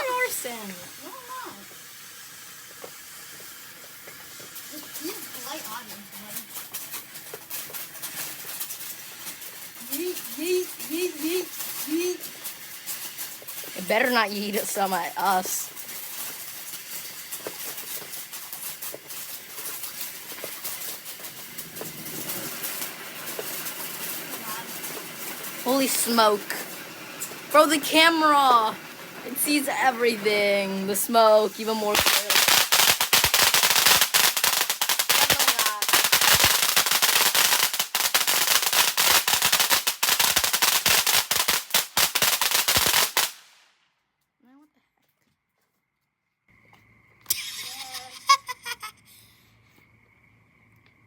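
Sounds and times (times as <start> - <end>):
firework hissing and crackling: 0.0 - 43.8, 47.3 - 49.3.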